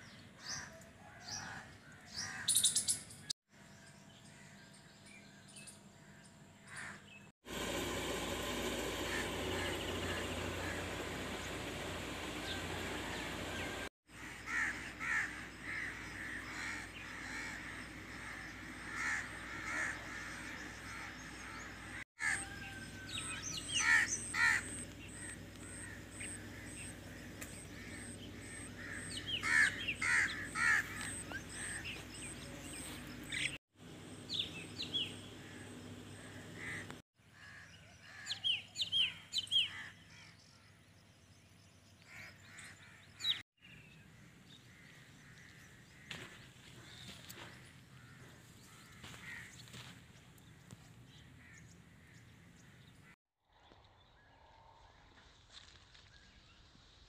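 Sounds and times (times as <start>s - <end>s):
birds calling: 0.0s - 3.3s, 5.6s - 33.6s, 34.2s - 53.2s.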